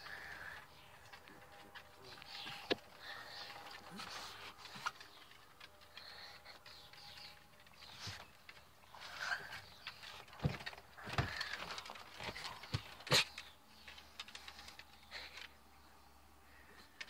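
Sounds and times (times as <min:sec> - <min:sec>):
dog paws on wooden boards: 0:00.0 - 0:15.5.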